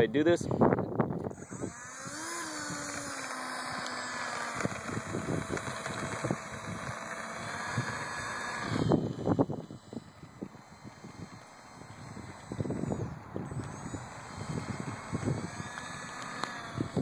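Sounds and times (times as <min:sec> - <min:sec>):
electric fan high-pitched whine: 0:00.0 - 0:17.0.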